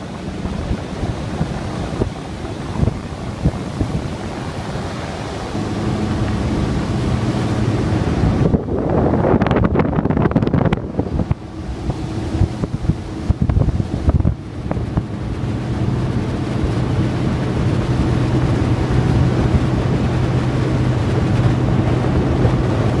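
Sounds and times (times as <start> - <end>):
boat engine droning: 0.0 - 23.0
water: 0.0 - 23.0
wind buffeting microphone: 0.0 - 23.0.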